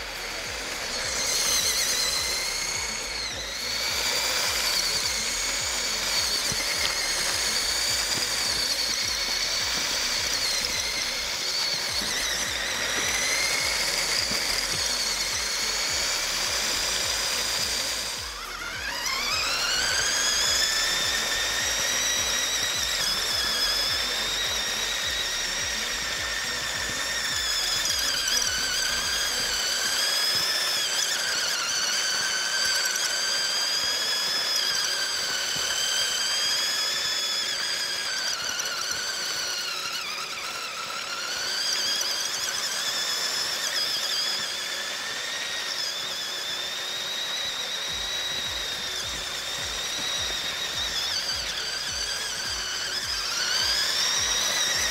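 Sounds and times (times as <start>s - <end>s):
toy truck motor whining: 0.0s - 54.9s.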